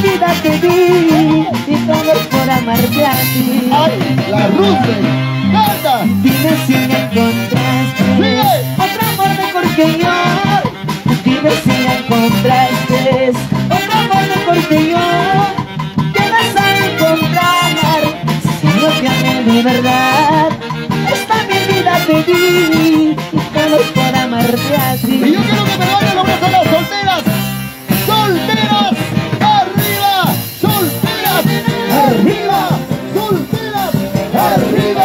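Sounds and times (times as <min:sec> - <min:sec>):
bass: 0:00.0 - 0:35.0
saxophones and clarinets melody: 0:00.0 - 0:35.0
steady drum beat: 0:00.0 - 0:35.0.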